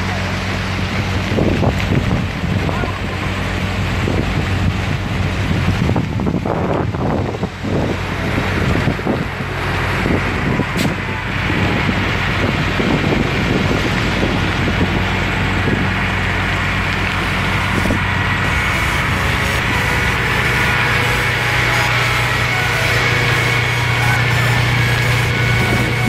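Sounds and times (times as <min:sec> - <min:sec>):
low engine hum: 0:00.0 - 0:26.0
wind buffeting microphone: 0:00.4 - 0:26.0.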